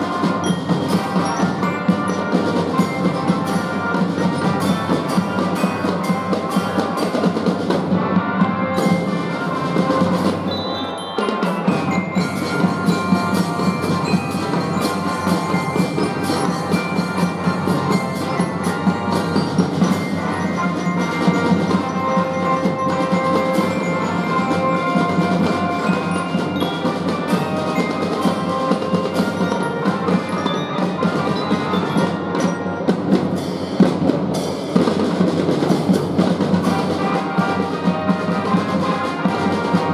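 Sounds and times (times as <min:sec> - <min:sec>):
drum and fife band playing: 0:00.0 - 0:39.9
drums: 0:00.0 - 0:39.9
glockenspiel: 0:00.0 - 0:39.9.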